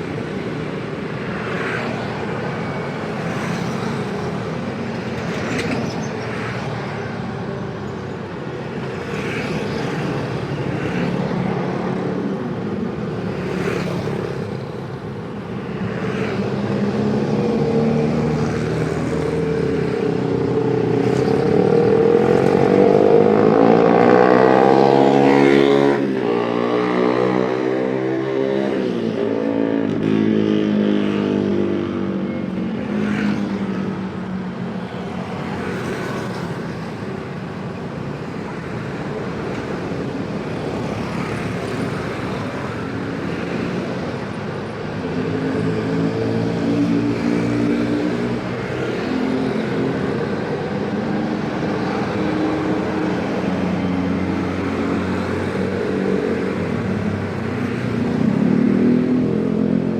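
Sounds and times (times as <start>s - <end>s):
road traffic: 0.0s - 59.9s
vehicles accelerating past: 9.0s - 59.9s.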